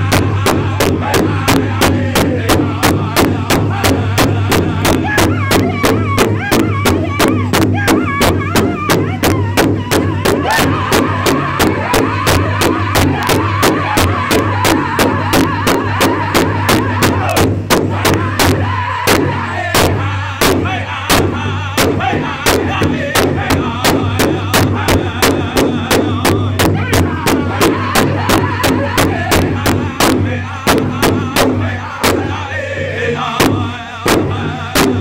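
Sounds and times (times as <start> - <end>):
large drum beating fast: 0.0 - 32.5, 33.2 - 35.0
men singing together: 0.0 - 35.0.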